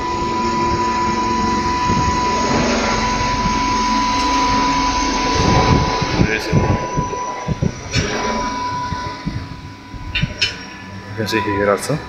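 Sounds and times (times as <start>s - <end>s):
constant high whine: 0.0s - 12.0s
low machine hum: 0.0s - 12.0s
machinery rushing noise: 0.0s - 12.0s.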